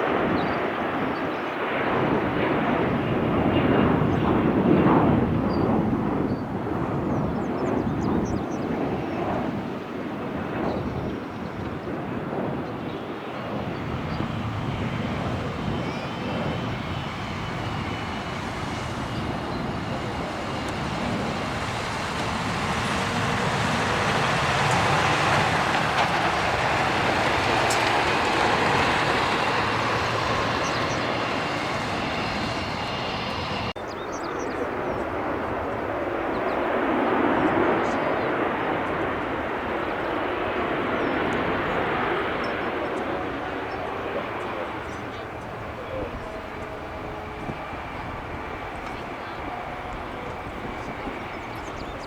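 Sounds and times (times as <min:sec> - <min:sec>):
jet engines roaring with whine: 0:00.0 - 0:52.0.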